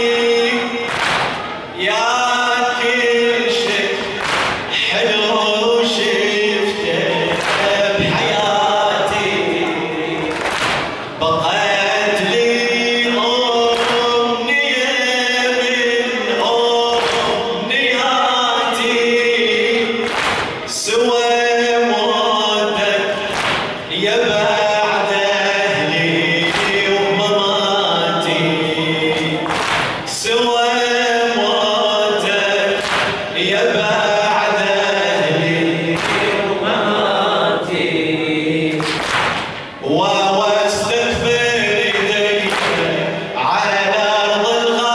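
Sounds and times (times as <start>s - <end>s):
chorus of men's voices: 0.0s - 44.9s
man chanting into a microphone: 0.0s - 44.9s.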